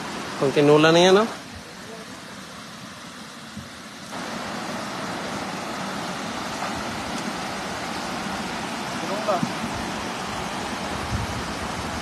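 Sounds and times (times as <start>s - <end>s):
shallow stream rushing: 0.0s - 12.0s.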